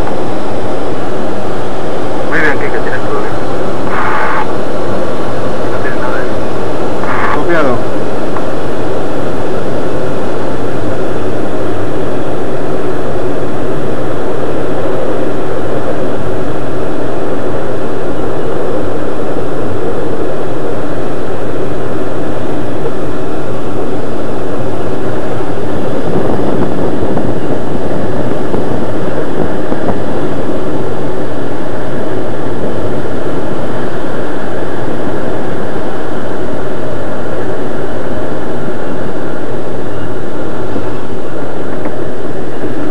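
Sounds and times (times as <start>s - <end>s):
rush of air past glider canopy: 0.0s - 42.9s.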